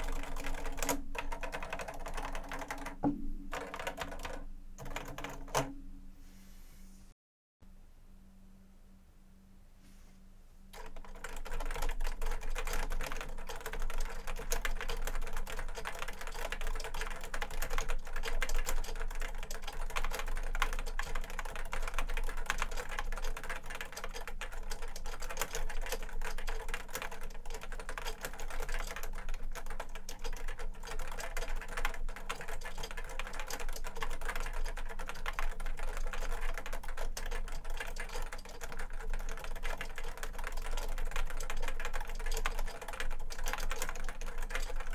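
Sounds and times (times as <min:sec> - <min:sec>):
fast typing on keyboard: 0:00.0 - 0:05.7, 0:10.7 - 0:44.9.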